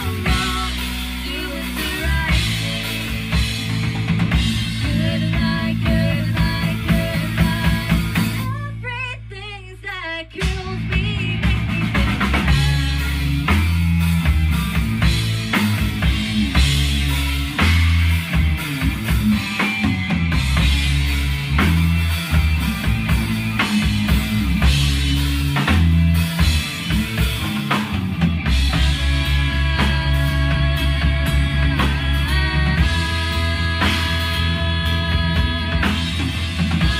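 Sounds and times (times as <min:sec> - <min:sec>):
electric guitar: 0:00.0 - 0:09.4, 0:10.3 - 0:36.9
drum kit: 0:00.0 - 0:36.9
electric bass: 0:00.0 - 0:36.9.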